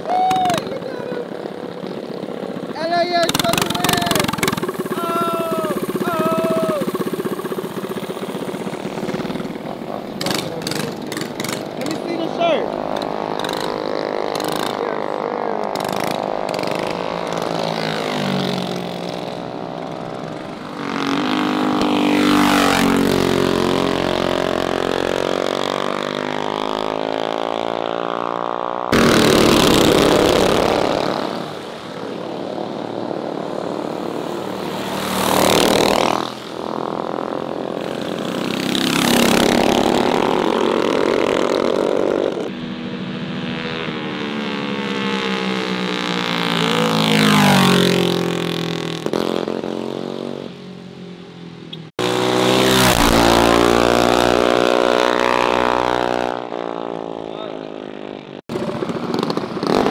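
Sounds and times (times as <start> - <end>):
mini bike engines revving past: 0.0 - 59.9.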